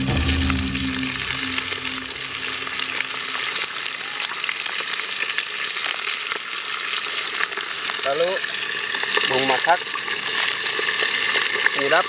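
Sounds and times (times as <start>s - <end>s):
food sizzling in metal pot: 0.0s - 12.0s.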